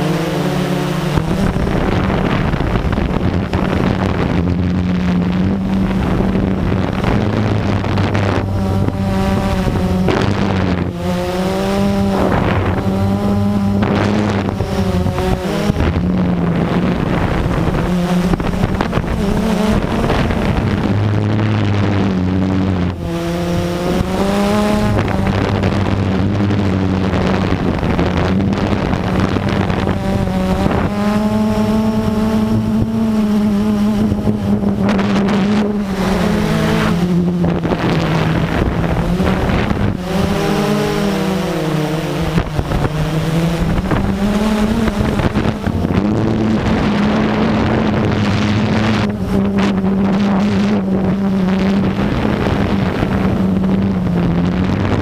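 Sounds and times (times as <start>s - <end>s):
quadcopter motors buzzing: 0.0s - 55.0s
wind on microphone: 0.0s - 55.0s.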